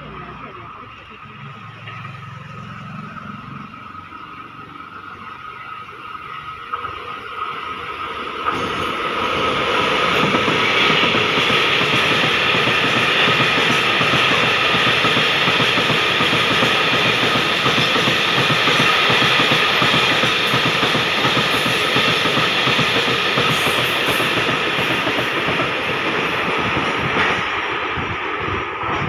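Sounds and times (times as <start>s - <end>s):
freight train wheels rumbling on rails: 0.0s - 29.0s.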